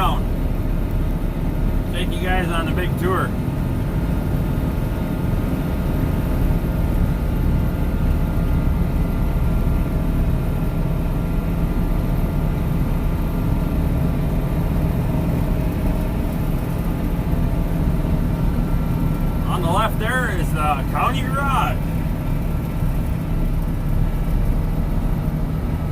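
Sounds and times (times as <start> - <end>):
tractor diesel engine droning: 0.0 - 25.9.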